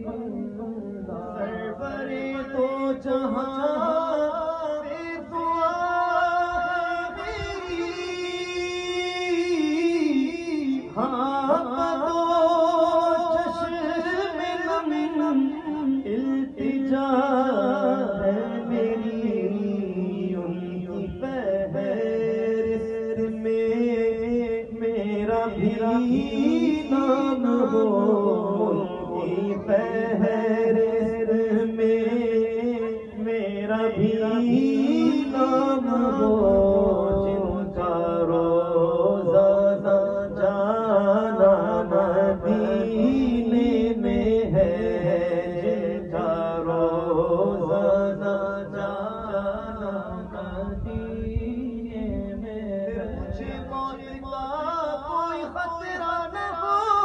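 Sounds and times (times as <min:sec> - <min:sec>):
man singing devotional poem: 0:00.0 - 0:57.0.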